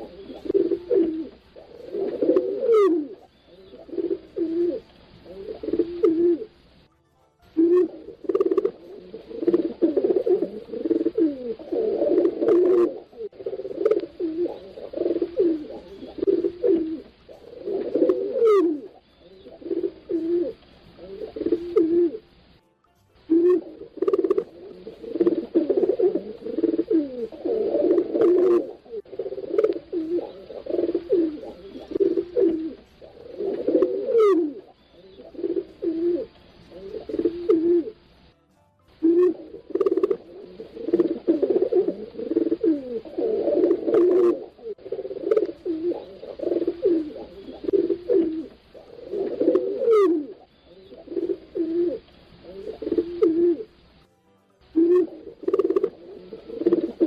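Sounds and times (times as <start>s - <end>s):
pigeons cooing: 0.0s - 6.8s, 7.6s - 22.4s, 23.3s - 38.1s, 39.0s - 54.0s, 54.7s - 57.0s.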